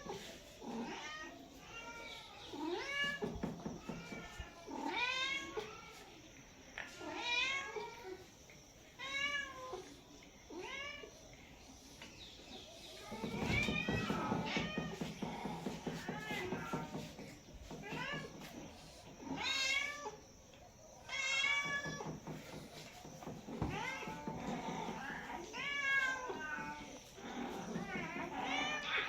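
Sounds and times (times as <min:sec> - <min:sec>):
cats meowing: 0:00.0 - 0:11.4, 0:12.4 - 0:29.0.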